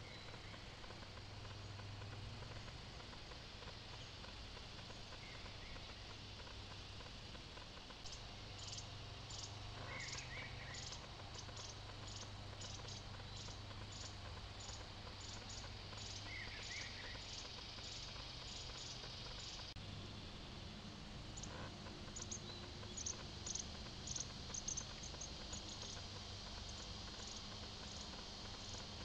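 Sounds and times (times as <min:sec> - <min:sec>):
insect chirping in high pulses: 0:00.0 - 0:29.0
steady low hum: 0:00.0 - 0:29.0.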